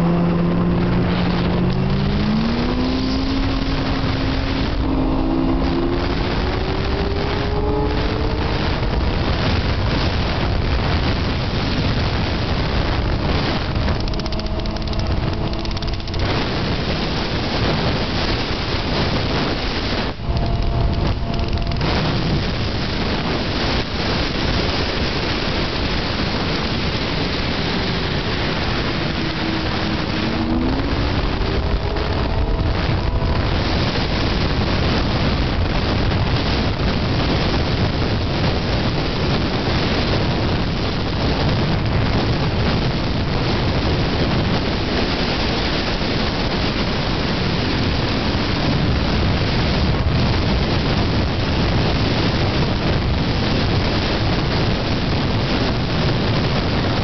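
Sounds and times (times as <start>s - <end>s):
snowmobile engine at high speed: 0.0s - 57.0s
wind rush on microphone: 0.0s - 57.0s.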